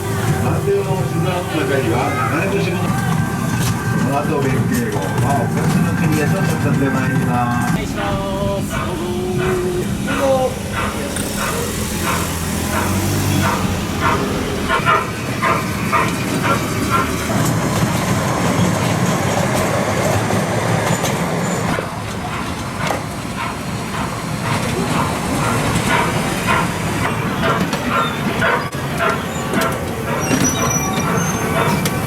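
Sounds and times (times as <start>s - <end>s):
miniature train running on track: 0.0s - 32.0s.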